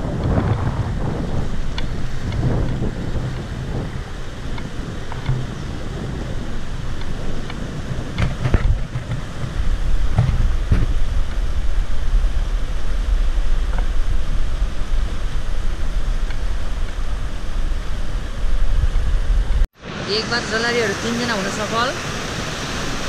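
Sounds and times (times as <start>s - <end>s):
wind buffeting microphone: 0.0s - 19.8s
stream rushing over rocks: 0.0s - 23.0s.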